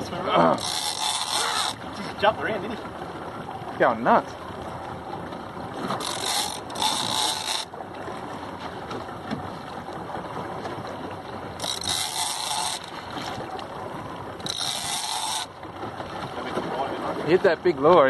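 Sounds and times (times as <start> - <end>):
wind and water rushing: 0.0 - 18.0.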